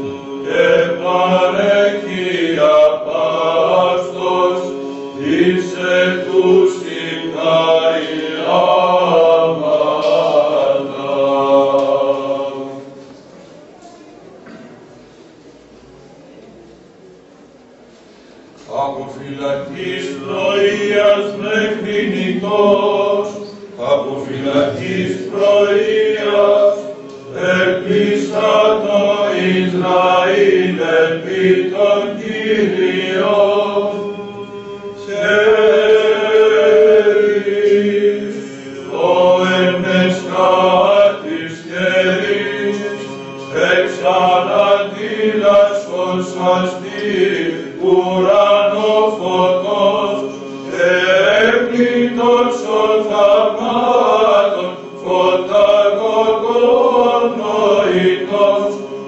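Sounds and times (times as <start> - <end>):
men chanting a hymn: 0.0 - 13.1, 18.7 - 59.0.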